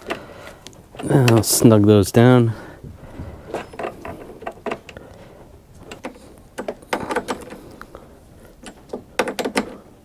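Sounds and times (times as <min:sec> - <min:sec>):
hand tool clicking on bolts: 0:00.0 - 0:01.8, 0:03.4 - 0:10.0.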